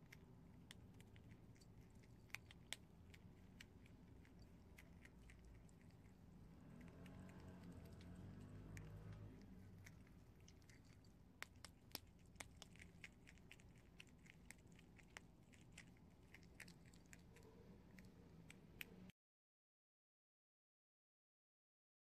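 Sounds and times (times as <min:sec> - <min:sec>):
animal gnawing dry noodles: 0:00.0 - 0:19.1.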